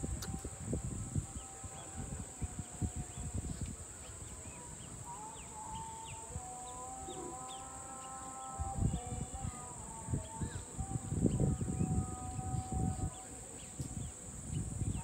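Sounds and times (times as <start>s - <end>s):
high-pitched insect drone: 0.0s - 15.0s
wind rumble on microphone: 0.0s - 15.0s.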